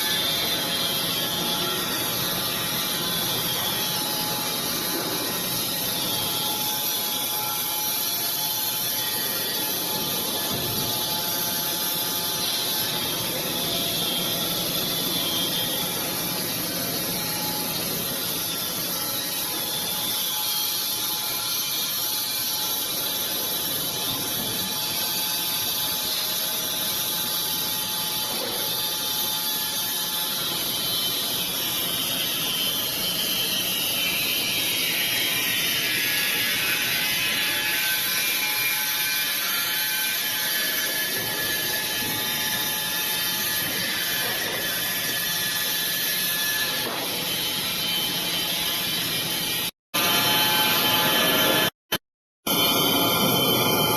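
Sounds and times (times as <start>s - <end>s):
band sawmill whirring and whining: 0.0s - 51.8s, 52.5s - 53.9s.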